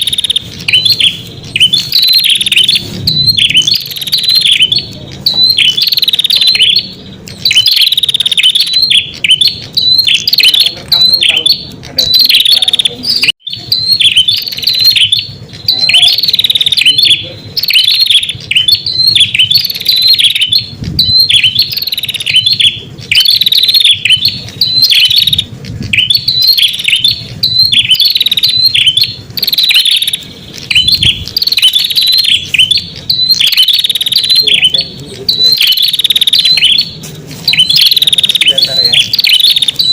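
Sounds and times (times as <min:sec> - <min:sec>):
bird chirping phrases: 0:00.0 - 0:39.9.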